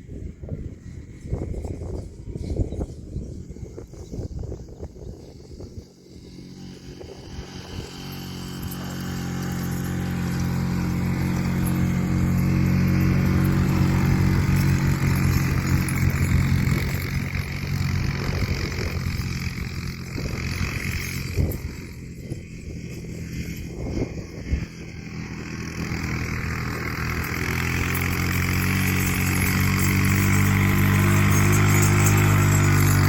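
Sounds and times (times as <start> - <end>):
quad bike engine passing: 0.0 - 33.0.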